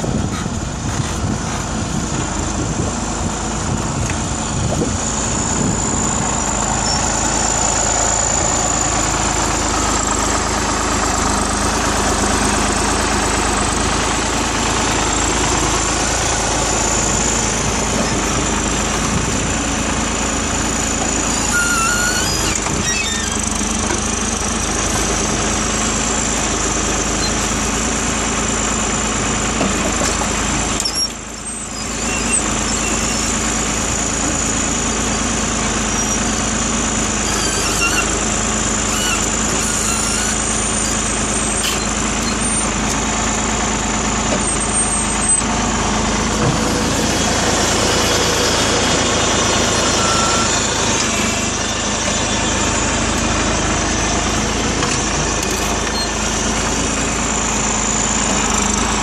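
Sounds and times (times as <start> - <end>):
backhoe engine running: 0.0 - 59.0
hydraulic arm digging stony soil: 0.0 - 59.0.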